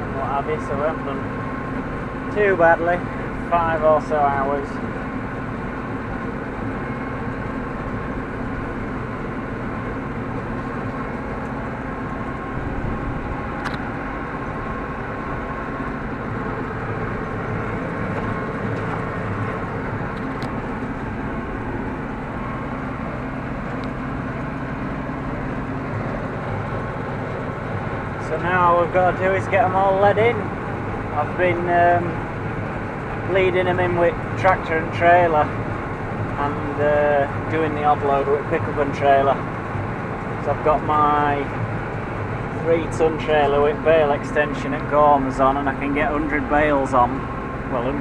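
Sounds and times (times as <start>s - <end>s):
tractor running under load: 0.0s - 48.0s.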